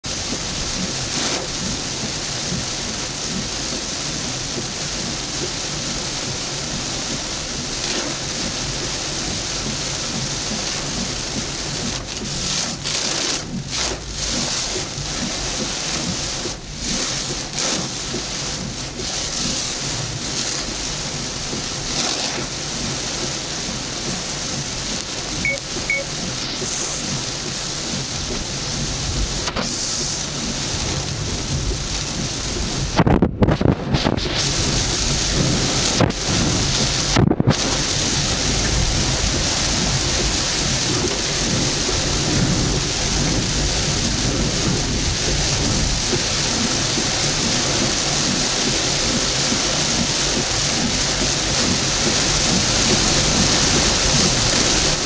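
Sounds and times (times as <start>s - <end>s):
heavy rain on vehicle: 0.0s - 55.0s.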